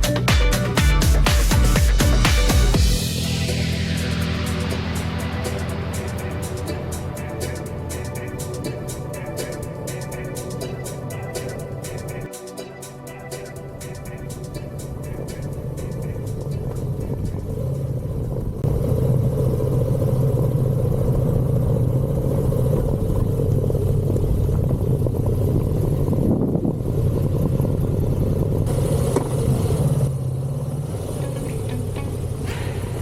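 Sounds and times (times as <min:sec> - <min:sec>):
motorcycle engine running: 0:00.0 - 0:12.3, 0:13.6 - 0:33.0.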